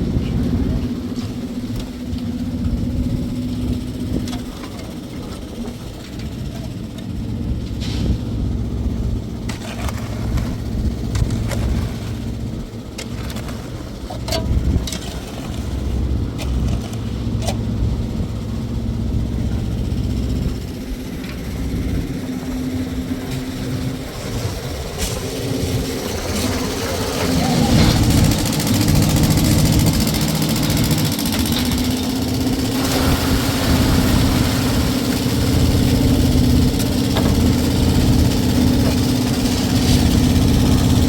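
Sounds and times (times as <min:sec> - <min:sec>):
engine rumbling: 0:00.0 - 0:41.0.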